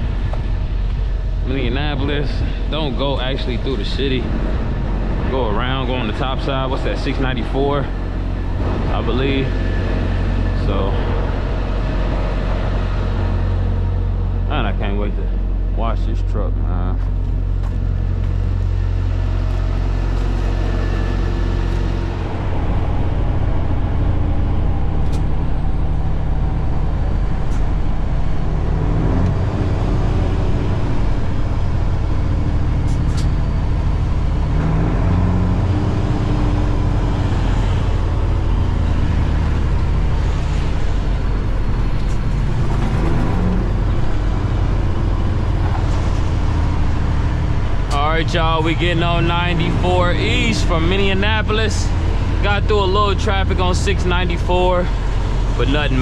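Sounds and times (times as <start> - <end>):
truck diesel engine drone: 0.0 - 56.0.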